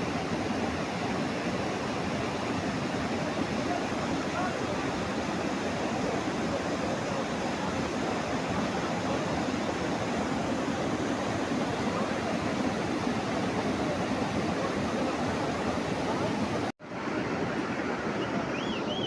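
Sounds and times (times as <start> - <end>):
fast-flowing water rushing: 0.0 - 19.0.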